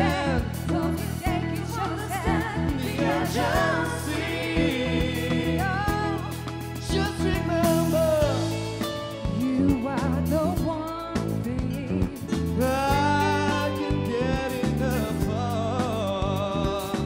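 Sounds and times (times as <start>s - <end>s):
band with bass and drums: 0.0s - 17.0s.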